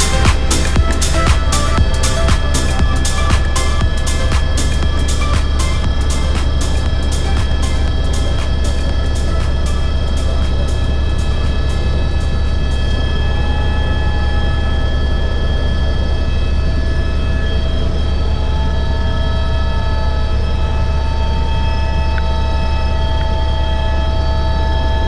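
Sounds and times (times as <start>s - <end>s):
helicopter turbine and rotor drone: 0.0s - 25.0s.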